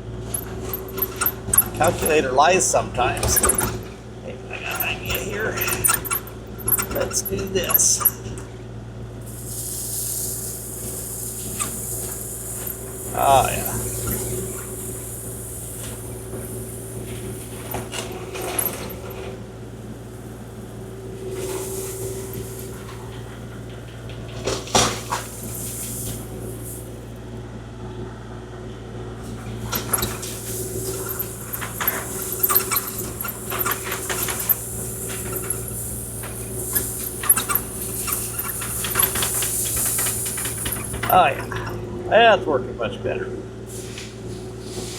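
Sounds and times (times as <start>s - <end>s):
excavator engine running: 0.0s - 9.6s, 10.3s - 42.3s.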